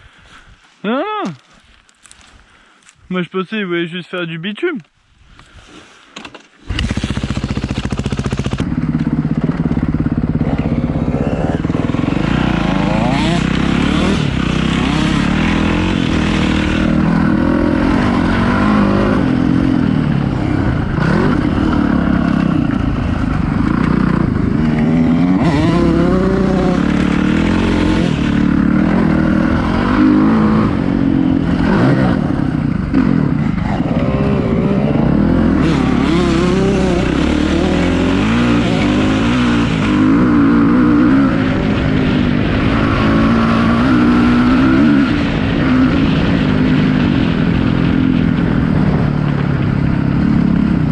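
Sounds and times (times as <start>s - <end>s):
dirt bike engine revving: 6.6s - 49.0s.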